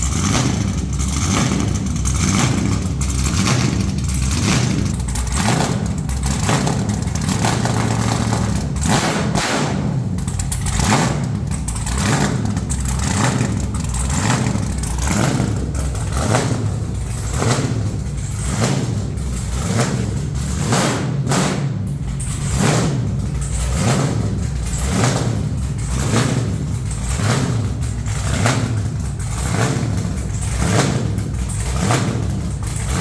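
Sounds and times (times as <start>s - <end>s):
loud surging vee eight engine: 0.0s - 33.0s.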